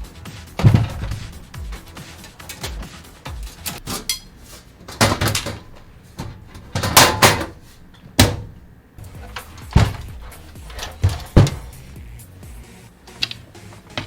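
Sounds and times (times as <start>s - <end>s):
computer case parts rattling: 0.0s - 12.2s.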